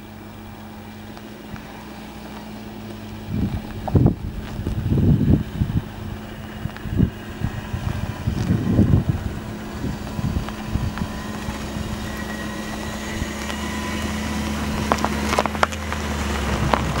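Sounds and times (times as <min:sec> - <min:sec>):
car engine hum: 0:00.0 - 0:17.0
stones crackling under tyres: 0:00.0 - 0:17.0
wind buffeting microphone: 0:03.0 - 0:17.0.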